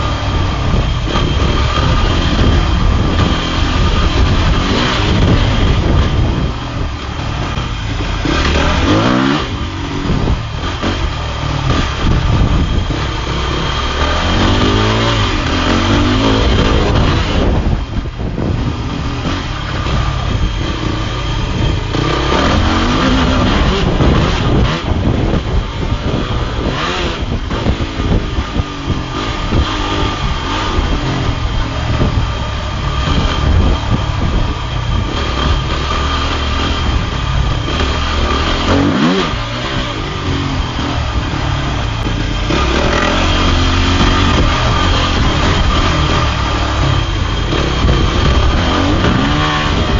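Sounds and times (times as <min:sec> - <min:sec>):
dirt bike engine revving: 0:00.0 - 0:49.9
steady rush of noise: 0:00.0 - 0:49.9.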